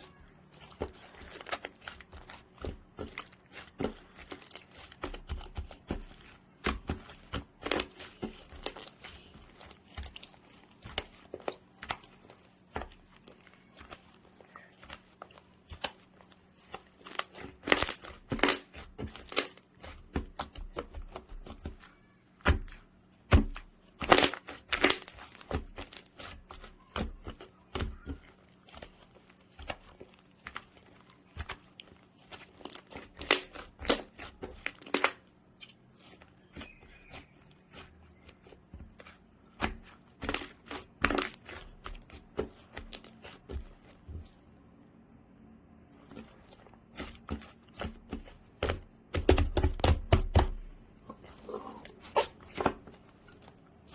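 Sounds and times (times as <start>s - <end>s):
hands squishing slime: 0.0s - 44.4s, 45.8s - 53.9s.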